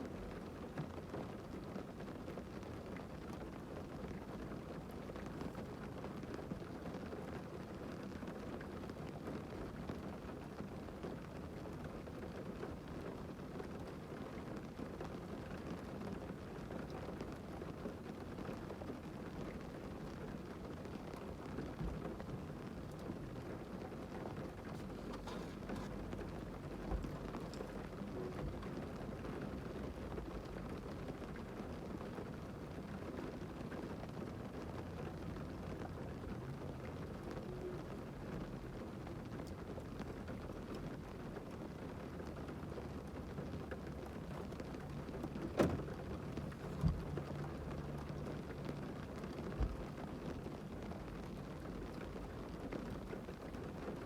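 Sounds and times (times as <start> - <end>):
rain pattering on a car: 0.0 - 54.0.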